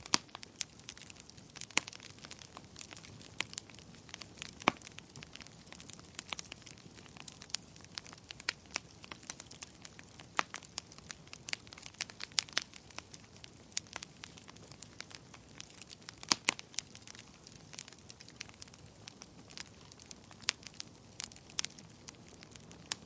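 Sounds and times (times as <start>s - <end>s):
soft low hiss of fire: 0.0s - 23.0s
wood fire crackling: 0.0s - 23.0s.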